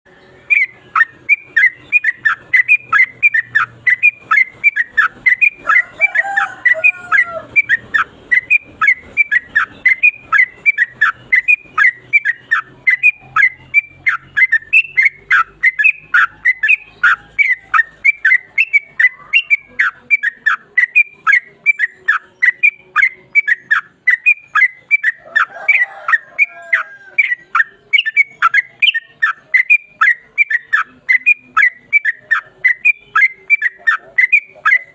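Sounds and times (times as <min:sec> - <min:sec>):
bird singing whistled notes: 0:00.1 - 0:34.9.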